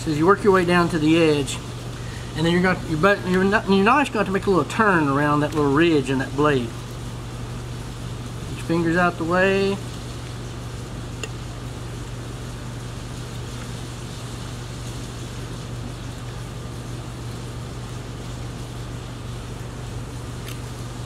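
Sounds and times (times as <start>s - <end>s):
room noise hiss: 0.0s - 21.0s.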